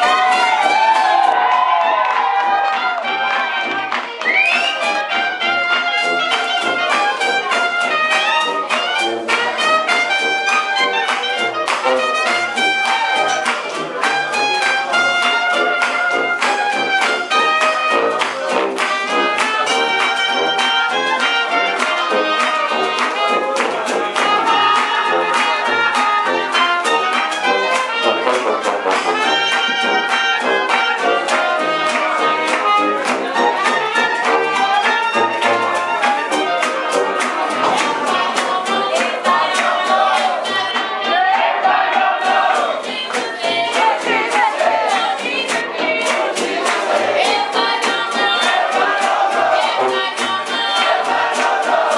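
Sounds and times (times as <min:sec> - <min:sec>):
jazz band playing: 0:00.0 - 0:41.0, 0:41.6 - 0:51.9.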